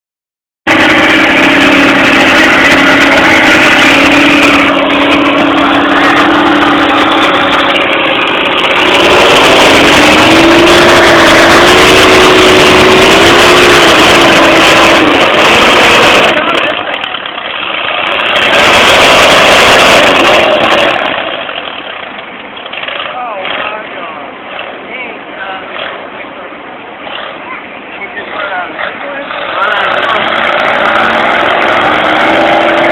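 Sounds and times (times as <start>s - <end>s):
tractor engine running: 0.7s - 32.9s.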